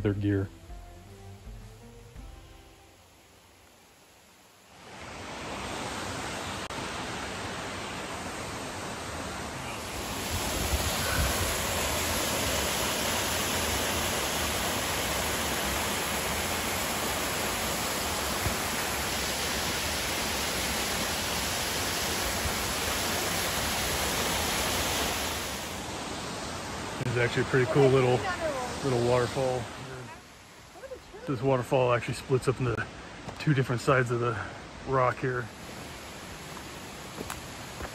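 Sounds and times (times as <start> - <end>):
waterfall rushing: 4.7 - 32.1, 34.1 - 37.9.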